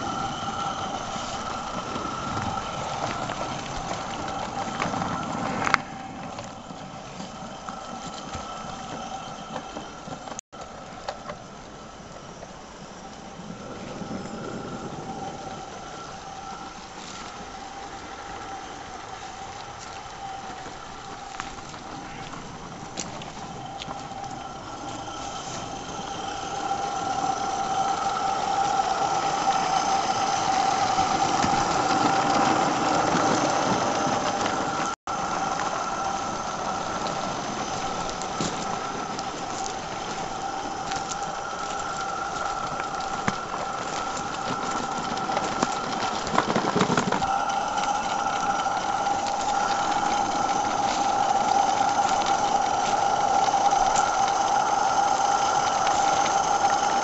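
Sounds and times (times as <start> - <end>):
steam locomotive hissing and humming: 0.0 - 57.0.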